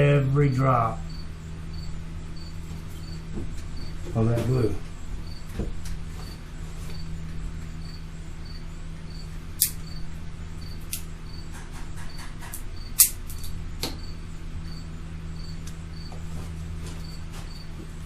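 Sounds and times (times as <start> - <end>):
faint cricket chirp: 0.0 - 18.0
steady low hum: 0.0 - 18.0.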